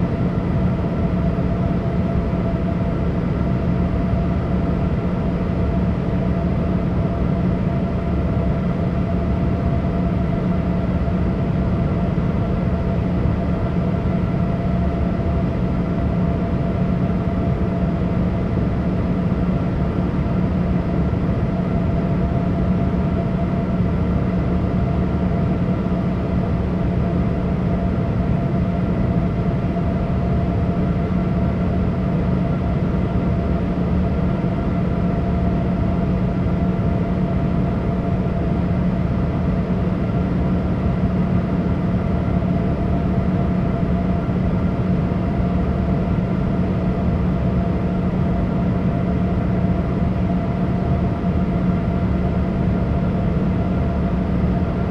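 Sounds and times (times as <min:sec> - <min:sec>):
airliner cabin engine drone: 0:00.0 - 0:54.9.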